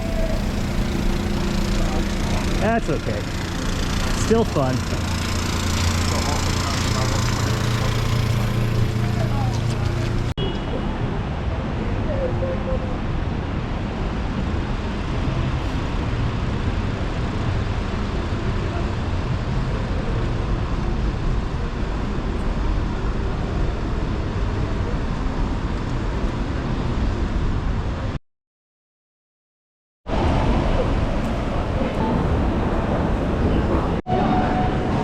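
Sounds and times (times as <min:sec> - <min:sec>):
city street traffic: 0:00.0 - 0:28.2, 0:30.1 - 0:35.0.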